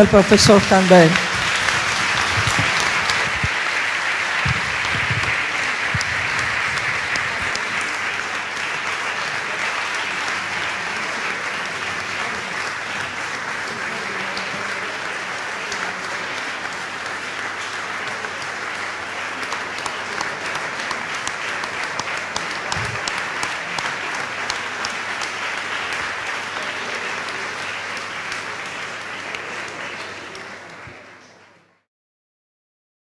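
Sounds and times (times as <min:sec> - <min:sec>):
audience applauding: 0:00.0 - 0:31.8.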